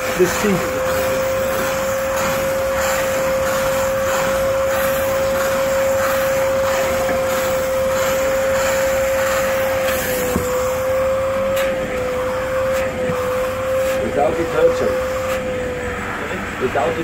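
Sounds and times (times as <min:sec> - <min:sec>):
steam hissing: 0:00.0 - 0:17.0
suction motor whine: 0:00.0 - 0:17.0.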